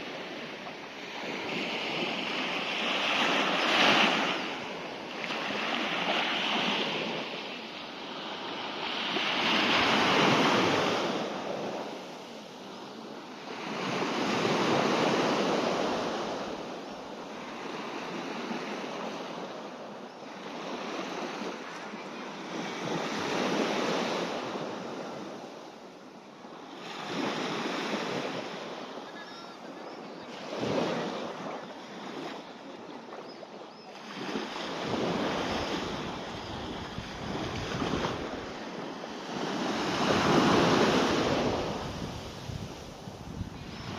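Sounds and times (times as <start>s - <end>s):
sea waves breaking on beach: 0.0s - 25.6s, 26.6s - 43.9s.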